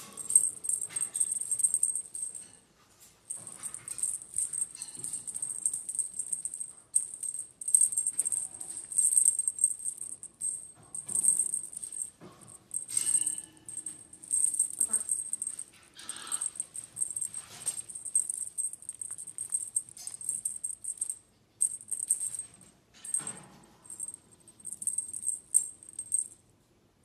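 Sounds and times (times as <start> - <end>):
dry high-pitched rattle shaking: 0.0 - 2.5, 3.3 - 23.3, 23.9 - 26.4.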